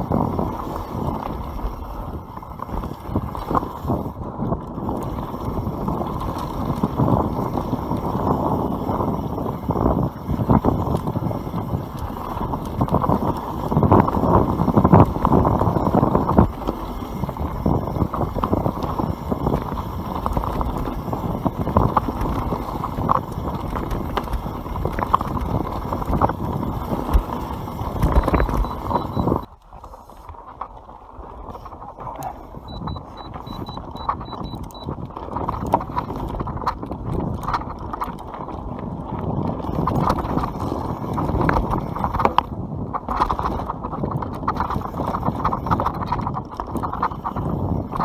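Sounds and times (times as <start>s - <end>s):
bike rattling and knocking: 0.0s - 29.5s, 30.4s - 48.0s
bike tyres rolling over dirt: 0.0s - 48.0s
wind on microphone: 0.0s - 48.0s.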